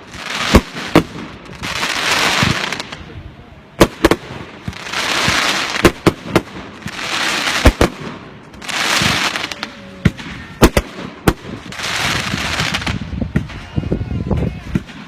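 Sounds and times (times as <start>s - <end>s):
fireworks rushing hisses: 0.0s - 13.8s
fireworks bangs: 0.0s - 15.0s.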